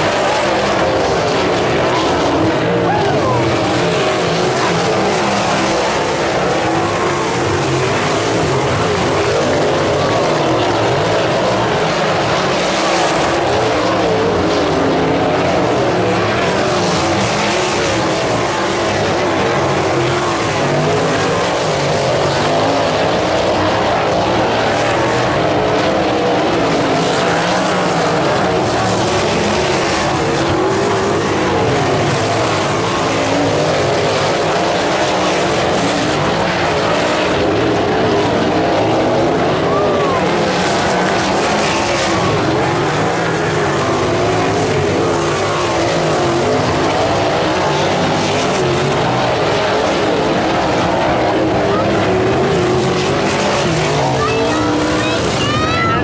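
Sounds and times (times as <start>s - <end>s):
race car engines at high revs: 0.0s - 56.0s.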